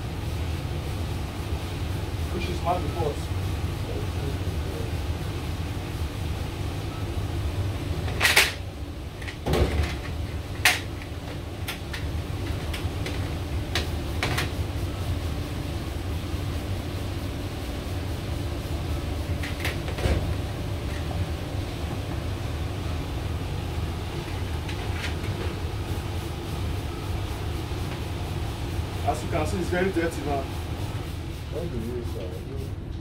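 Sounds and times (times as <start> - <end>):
kitchen machinery humming: 0.0 - 33.0.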